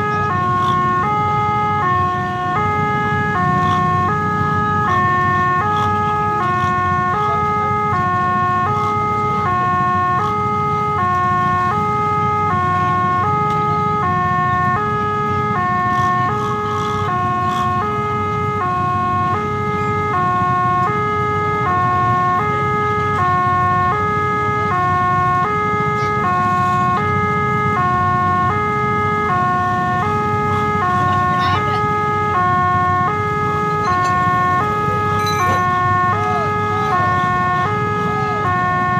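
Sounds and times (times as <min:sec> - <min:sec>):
level crossing two-tone alarm: 0:00.0 - 0:38.9
motorcycle engines idling: 0:00.0 - 0:38.9.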